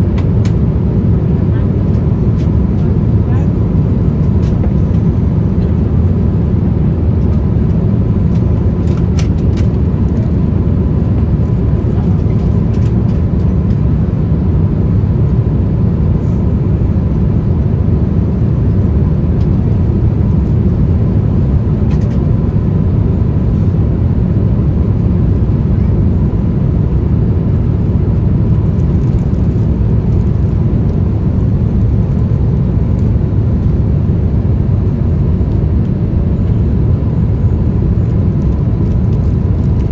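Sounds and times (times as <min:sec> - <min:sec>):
airplane cabin noise: 0:00.0 - 0:39.9.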